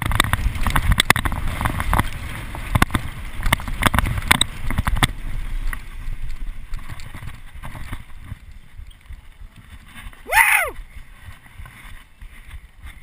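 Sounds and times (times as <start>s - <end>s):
bike knocking and rattling: 0.0s - 13.0s
bike tyre rumble: 0.0s - 13.0s
wind buffeting microphone: 0.0s - 13.0s.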